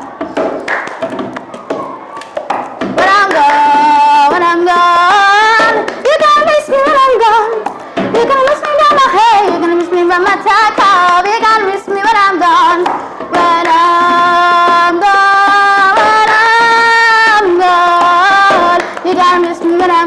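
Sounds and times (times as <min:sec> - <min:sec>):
woman singing wordless melody: 0:02.9 - 0:20.0.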